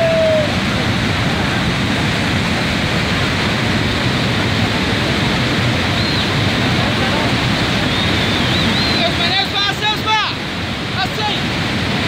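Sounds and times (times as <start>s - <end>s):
floodwater rushing over rocks: 0.0s - 12.0s.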